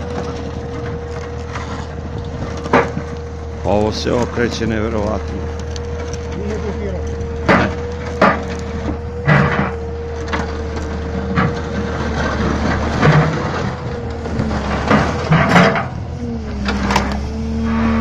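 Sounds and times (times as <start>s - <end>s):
sharp crunches and cracks: 0.0s - 17.3s
excavator diesel engine running: 0.0s - 18.0s.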